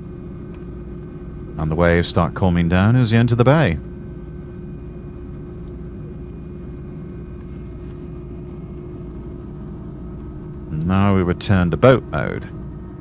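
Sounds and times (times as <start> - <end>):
boat turbine engines rumbling: 0.0 - 13.0
steady hum: 0.0 - 13.0.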